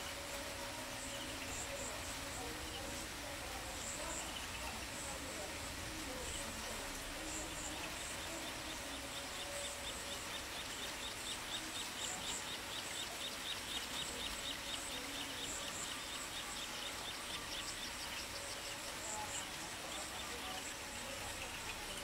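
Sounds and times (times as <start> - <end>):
insects and birds chirping: 0.0 - 22.0.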